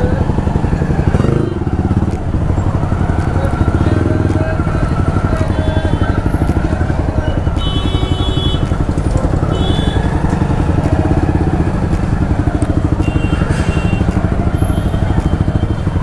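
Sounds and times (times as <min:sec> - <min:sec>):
motorcycle engine idling loudly: 0:00.0 - 0:16.0.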